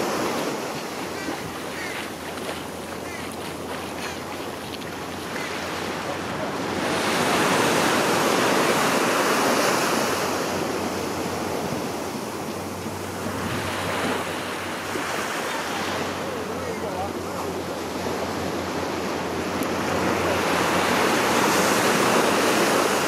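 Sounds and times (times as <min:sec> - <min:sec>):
surf washing against rocks: 0:00.0 - 0:23.0.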